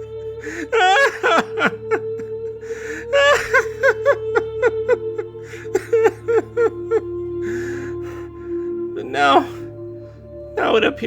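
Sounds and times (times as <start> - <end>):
man sobbing: 0.0 - 9.7
soft background music: 0.0 - 11.0.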